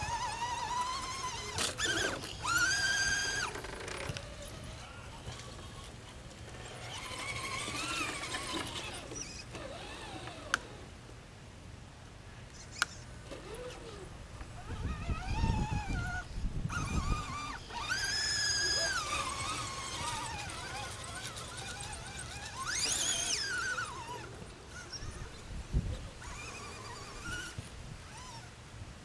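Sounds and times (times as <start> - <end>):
toy truck motors whining: 0.0 - 10.9, 12.5 - 28.6.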